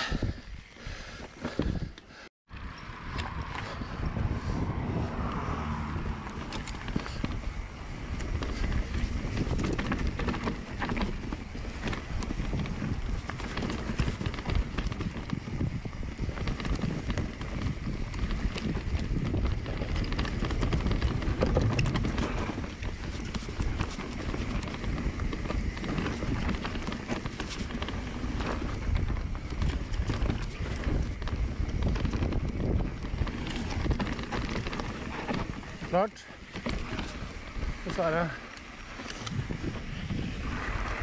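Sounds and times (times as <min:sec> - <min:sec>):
bike tyres rumbling over roots: 0:00.0 - 0:41.0
wind buffeting microphone: 0:00.0 - 0:41.0
bike chain and frame clattering: 0:05.9 - 0:41.0.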